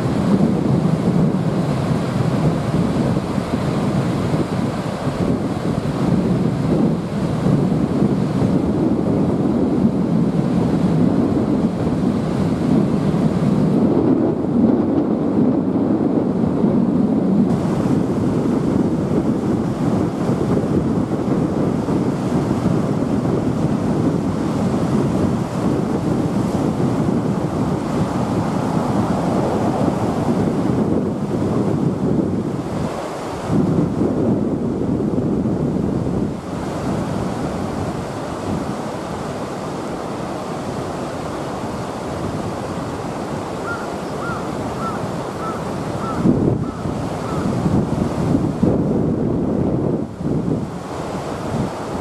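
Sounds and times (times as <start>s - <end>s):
river rushing through rapids: 0.0s - 13.8s, 17.5s - 34.8s, 35.7s - 52.0s
wind buffeting microphone: 0.0s - 52.0s.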